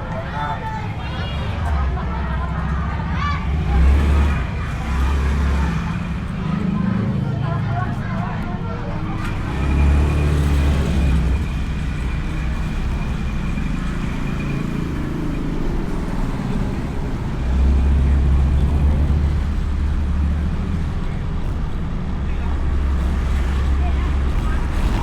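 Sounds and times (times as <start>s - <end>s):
motorbike engine and road rumble: 0.0s - 25.0s.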